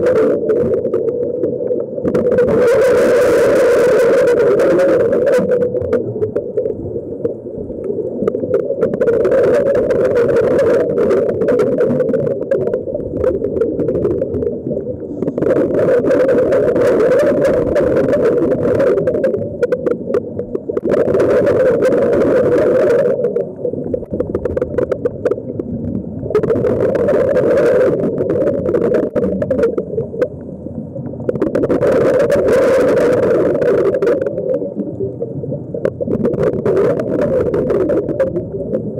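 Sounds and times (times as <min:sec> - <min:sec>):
diver exhaling bubbles: 0:00.0 - 0:38.9
muffled underwater drone: 0:00.0 - 0:38.9.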